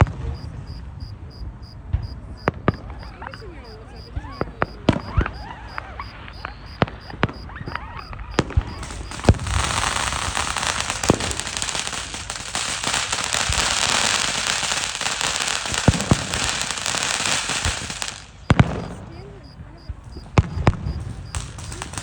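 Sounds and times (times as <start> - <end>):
fireworks bangs: 0.0 - 22.0
fireworks crackle: 0.0 - 22.0.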